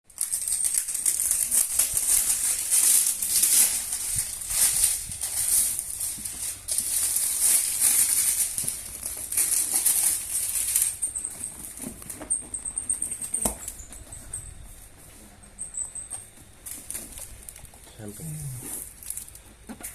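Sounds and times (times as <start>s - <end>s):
packaging rustling and crinkling: 0.1s - 15.1s, 16.4s - 19.9s.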